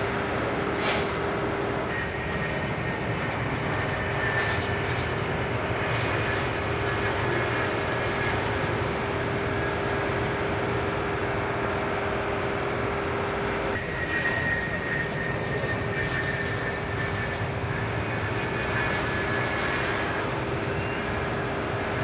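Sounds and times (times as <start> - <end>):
jet engines running: 0.0 - 22.0
steady high whine: 0.0 - 22.0.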